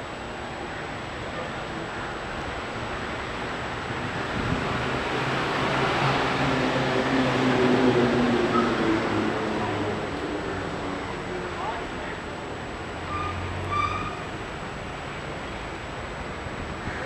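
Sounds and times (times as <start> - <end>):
traffic noise hiss: 0.0 - 17.0.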